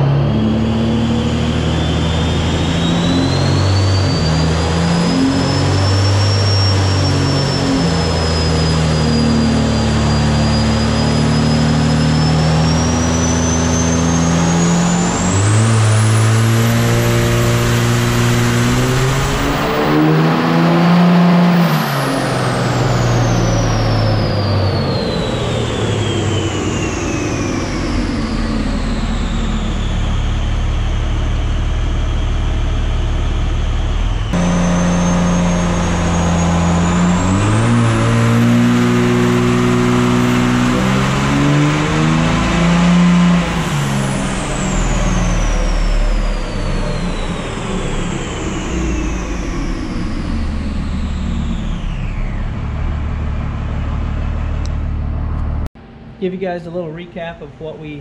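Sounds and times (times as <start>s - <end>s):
diesel engine on dyno: 0.0s - 58.0s
turbo whistle: 0.3s - 32.4s, 34.2s - 53.0s.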